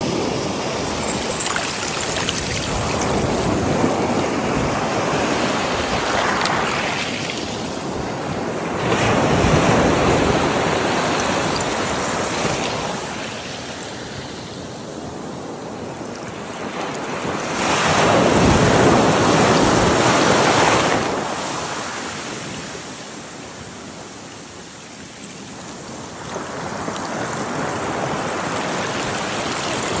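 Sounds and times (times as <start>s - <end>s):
waves breaking on shore: 0.0s - 30.0s.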